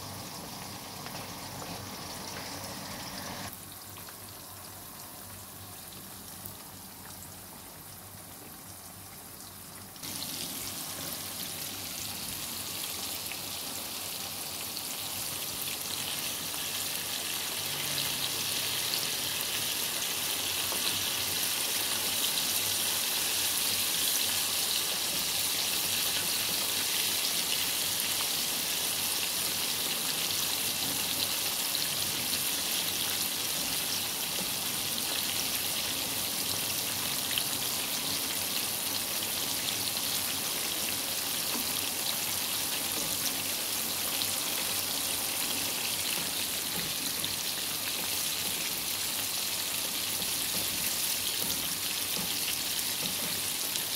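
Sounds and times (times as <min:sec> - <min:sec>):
chicken frying in hot oil: 0:00.0 - 0:53.9.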